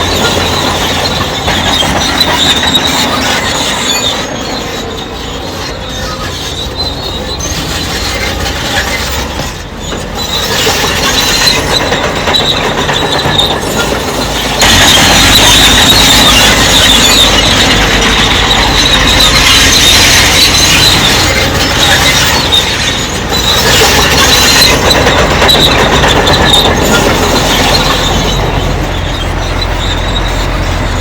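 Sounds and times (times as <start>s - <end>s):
crawler tracks squealing and clattering: 0.0s - 31.0s
diesel engine running: 0.0s - 31.0s.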